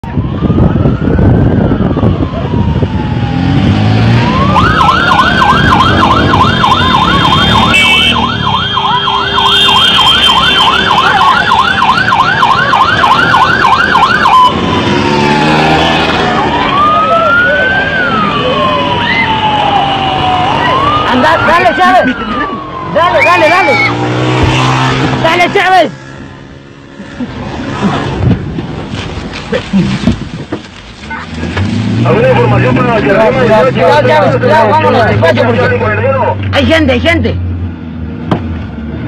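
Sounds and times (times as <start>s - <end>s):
emergency vehicle siren: 0.0s - 27.0s, 32.0s - 36.4s
vehicle rumble: 0.0s - 39.0s.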